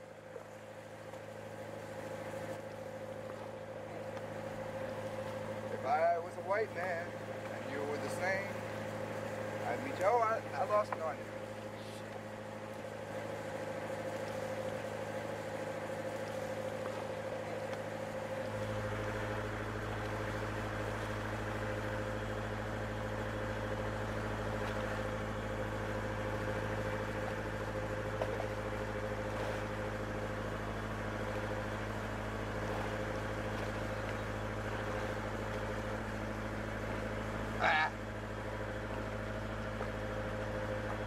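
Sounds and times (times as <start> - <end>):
boat engine humming: 0.0 - 41.0
deep rumble: 0.0 - 41.0.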